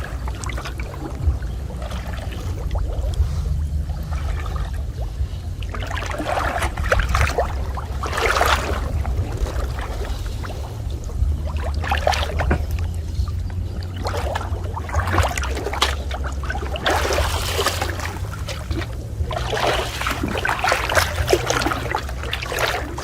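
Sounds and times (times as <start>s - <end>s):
steady low hum: 0.0s - 23.0s
water splashing and sloshing: 0.0s - 23.0s.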